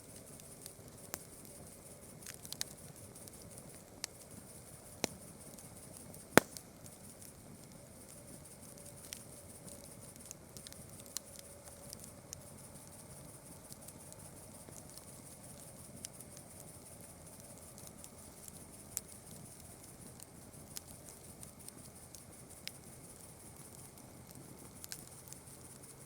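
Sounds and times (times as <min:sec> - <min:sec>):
campfire crackling: 0:00.1 - 0:25.9.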